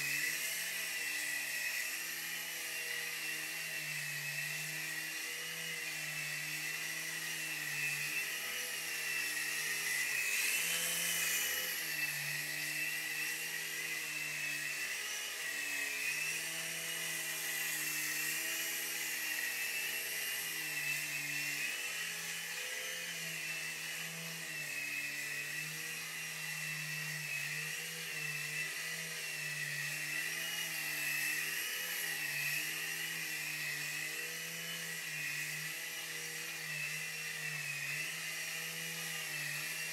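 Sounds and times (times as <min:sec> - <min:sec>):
small electric motors whining: 0:00.0 - 0:39.9.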